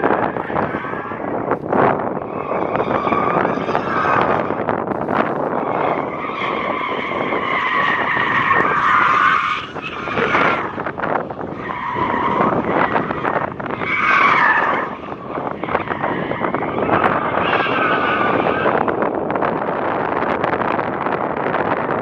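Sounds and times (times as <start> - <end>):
car tyres squealing: 0.0 - 22.0
wind noise on microphone: 0.0 - 22.0.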